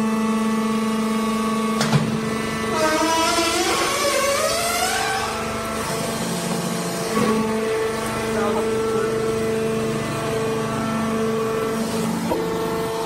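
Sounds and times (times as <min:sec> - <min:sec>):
motor and pump hum: 0:00.0 - 0:13.0.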